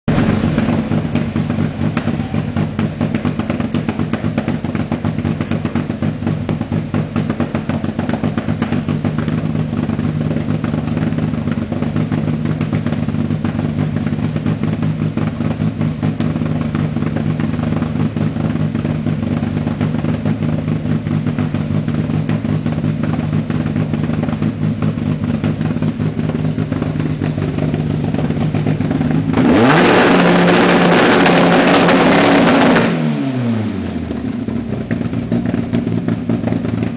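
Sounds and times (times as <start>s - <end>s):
car engine idling roughly: 0.1s - 32.8s, 33.8s - 36.9s.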